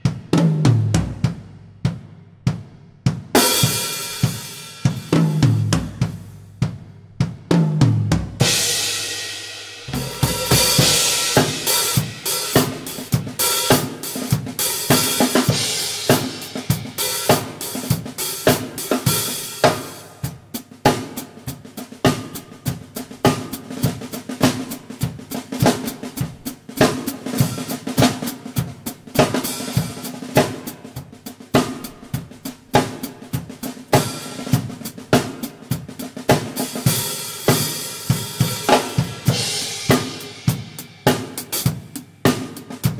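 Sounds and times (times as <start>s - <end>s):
drum kit groove: 0.0s - 42.9s.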